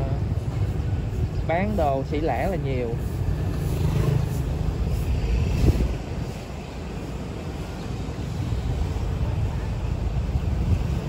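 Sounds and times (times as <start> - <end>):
motorbike traffic: 0.0 - 11.0
vehicle road noise: 0.0 - 11.0
wind on microphone: 0.0 - 11.0.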